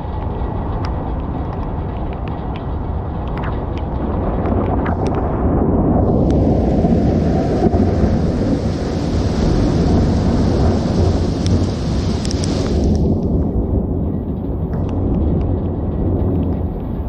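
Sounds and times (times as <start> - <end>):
heavy rain: 0.0 - 17.0
hiss of wind-driven rain: 0.0 - 17.0
thunder rumbling: 0.0 - 17.0.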